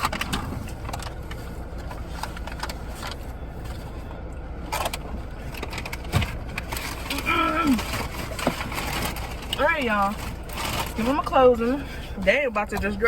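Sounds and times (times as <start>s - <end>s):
car rumble inside cabin: 0.0s - 13.0s.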